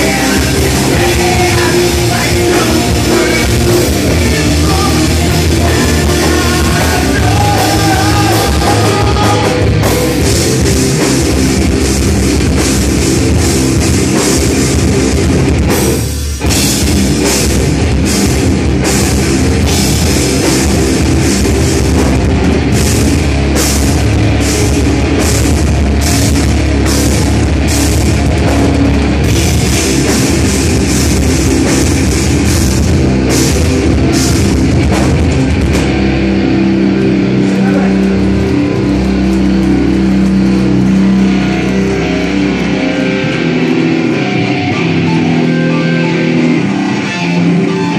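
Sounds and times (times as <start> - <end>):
distorted electric guitars: 0.0 - 47.9
drum kit pounding: 0.0 - 47.9.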